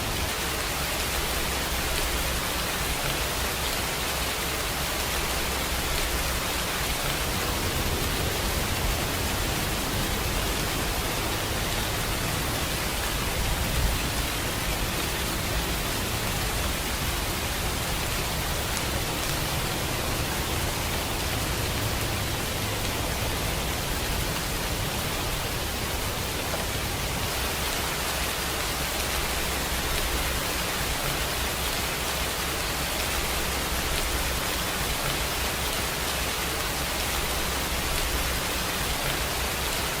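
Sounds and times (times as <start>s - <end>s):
rain hissing: 0.0s - 40.0s.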